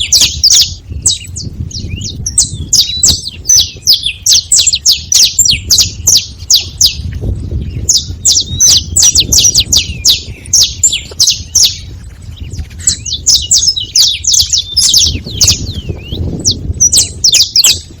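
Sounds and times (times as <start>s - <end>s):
finches calling high chips: 0.0s - 18.0s.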